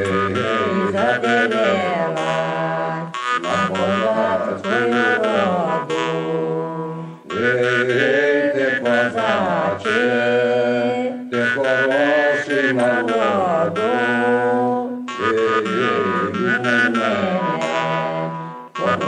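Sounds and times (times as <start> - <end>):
jew's harp playing folk tune: 0.0 - 19.0.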